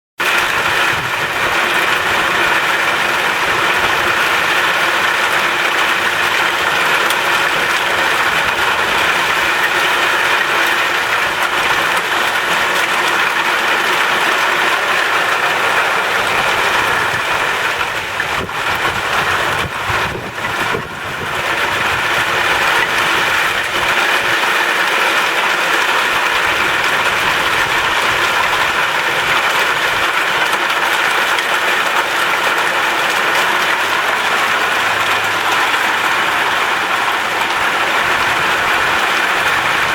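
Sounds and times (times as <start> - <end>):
heavy rain pouring: 0.2 - 39.9.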